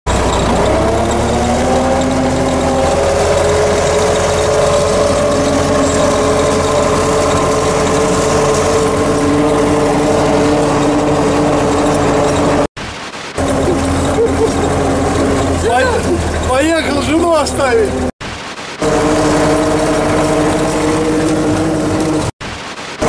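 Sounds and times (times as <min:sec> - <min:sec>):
tractor diesel engine running: 0:00.0 - 0:12.7, 0:13.4 - 0:18.2, 0:18.8 - 0:22.4.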